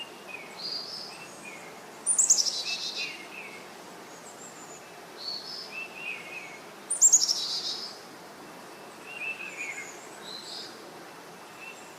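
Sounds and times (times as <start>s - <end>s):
background hiss: 0.0s - 11.9s.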